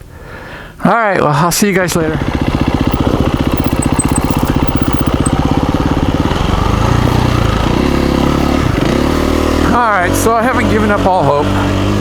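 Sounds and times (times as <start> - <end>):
dirt bike engine idling: 1.9 - 12.0.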